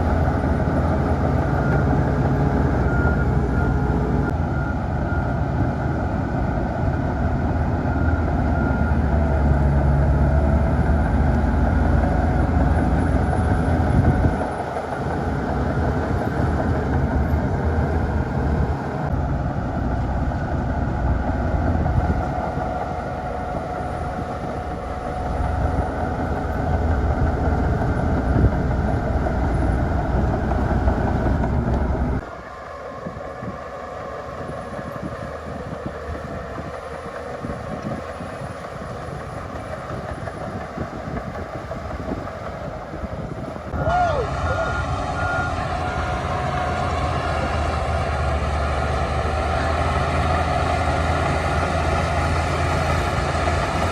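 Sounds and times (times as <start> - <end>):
bulldozer engine rumbling: 0.0 - 53.9.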